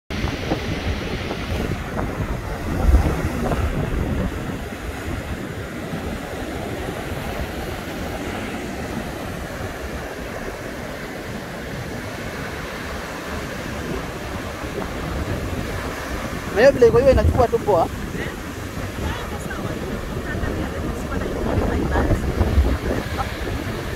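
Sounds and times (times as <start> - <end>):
surf breaking on beach: 0.1 - 23.9
wind buffeting microphone: 0.1 - 23.9.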